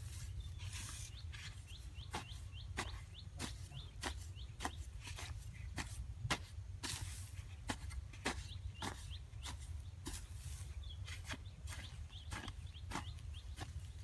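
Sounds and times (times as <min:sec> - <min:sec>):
bird chirping: 0:00.0 - 0:05.9, 0:08.1 - 0:14.0.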